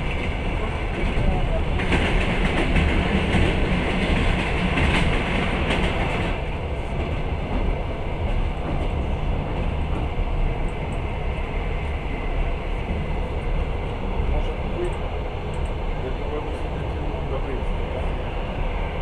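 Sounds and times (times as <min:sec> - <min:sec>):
passing train: 0:00.0 - 0:19.0
train carriage rumble: 0:00.0 - 0:19.0.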